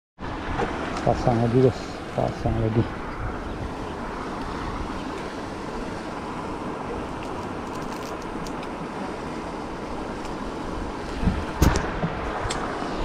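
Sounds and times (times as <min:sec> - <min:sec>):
wind noise on microphone: 0:02.4 - 0:13.0.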